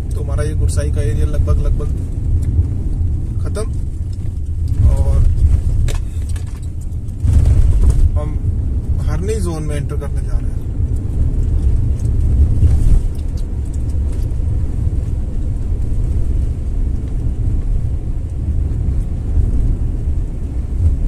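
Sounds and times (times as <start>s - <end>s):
car engine and tyre noise: 0.0s - 21.0s.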